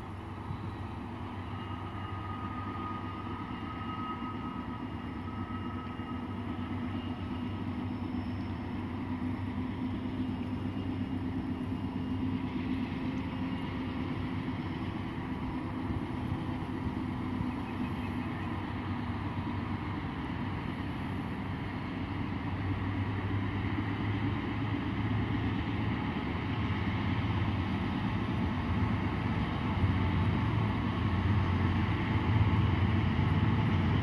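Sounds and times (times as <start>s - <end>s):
distant diesel locomotive rumble: 0.0s - 34.0s.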